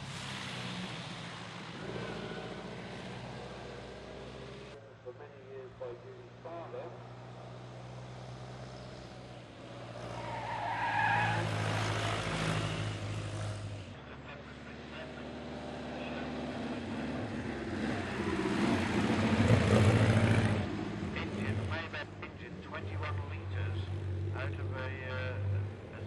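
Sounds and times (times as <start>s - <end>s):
racing car engines running hard: 0.0s - 4.8s, 6.8s - 26.0s.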